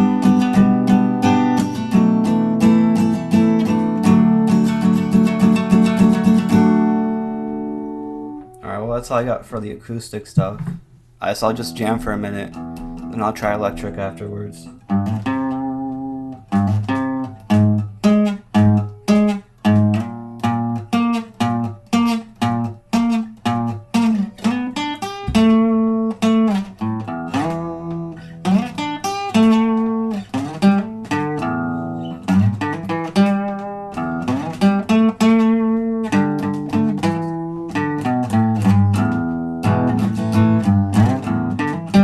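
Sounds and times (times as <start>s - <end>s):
acoustic guitar picking: 0.0s - 9.7s, 10.3s - 42.0s.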